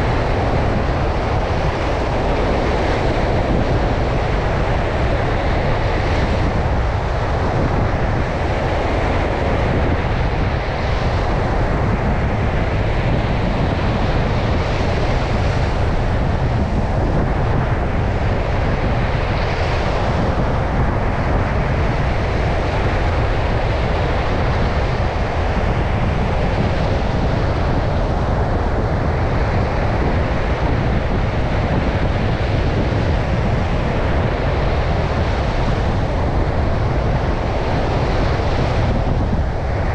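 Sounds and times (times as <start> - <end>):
stormy ocean surf: 0.0 - 39.9
wind buffeting microphone: 0.0 - 39.9.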